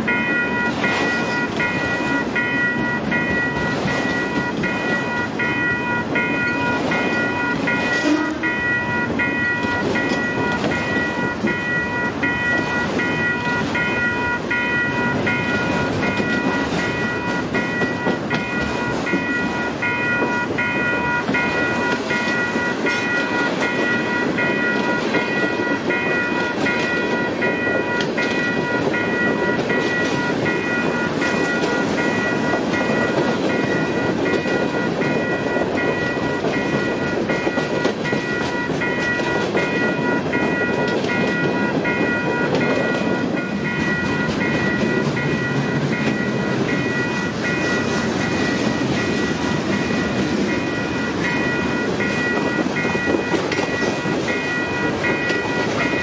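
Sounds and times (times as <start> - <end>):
clickety-clack at rail joints: 0.0 - 56.0
train wheels rumbling on rail: 0.0 - 56.0
pulsing high ringing tone: 0.1 - 56.0.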